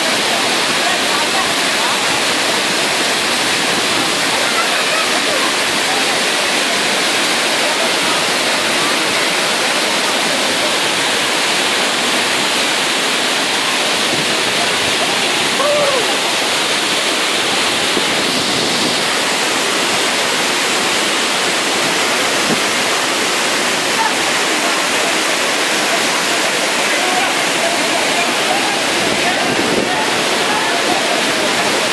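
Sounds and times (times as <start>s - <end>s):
faint human voices: 0.0s - 31.9s
waterfall rushing: 0.0s - 31.9s.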